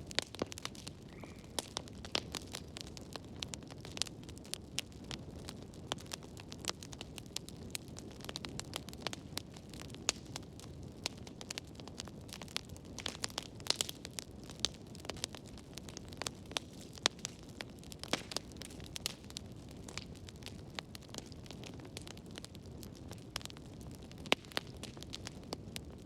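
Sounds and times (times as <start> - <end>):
fire flames rumbling: 0.0 - 26.0
wood crackling and popping: 0.0 - 26.0.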